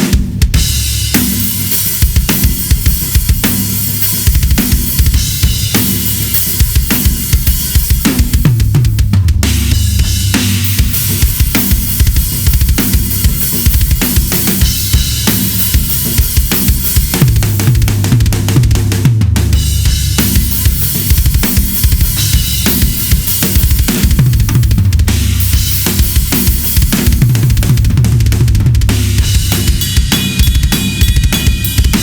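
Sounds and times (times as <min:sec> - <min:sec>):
drum kit playing: 0:00.0 - 0:32.0.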